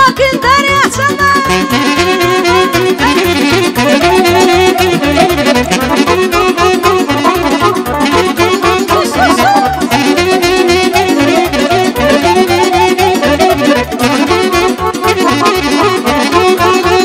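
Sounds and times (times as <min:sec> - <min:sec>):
live folk dance band: 0:00.0 - 0:17.0
wind instrument melody: 0:00.0 - 0:17.0.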